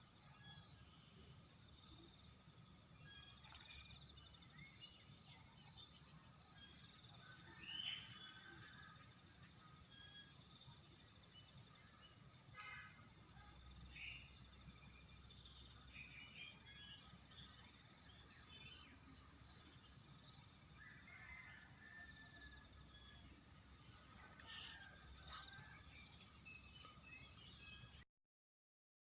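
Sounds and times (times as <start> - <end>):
wild birdsong chirps: 0.0 - 28.0.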